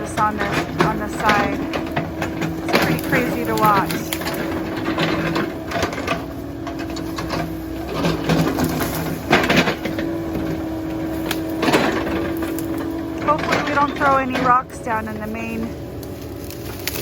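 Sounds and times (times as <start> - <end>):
excavator diesel engine humming: 0.0 - 17.0.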